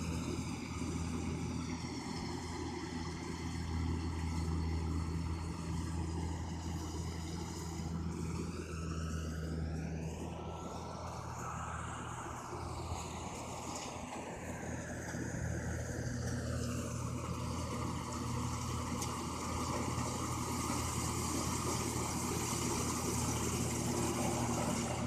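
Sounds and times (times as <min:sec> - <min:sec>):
harvester engine running: 0:00.0 - 0:25.0.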